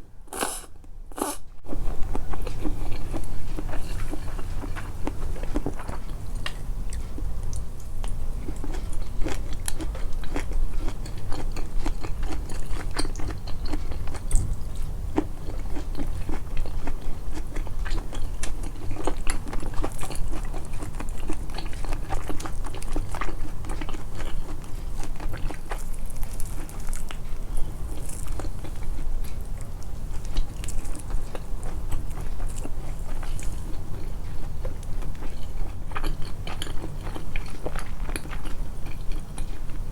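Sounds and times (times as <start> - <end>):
steady low hum: 0.0 - 39.9
chewing and biting: 0.3 - 39.9.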